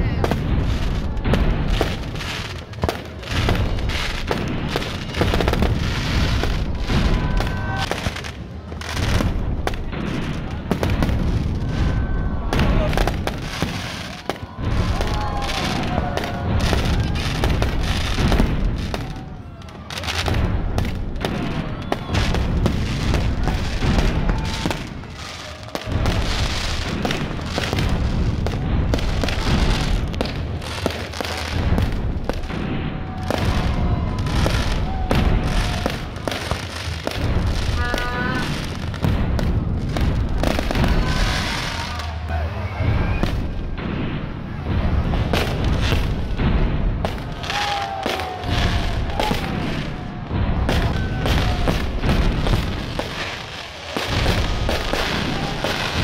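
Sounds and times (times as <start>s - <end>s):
fireworks bangs and crackling: 0.0s - 56.0s
fireworks whistles: 0.2s - 56.0s.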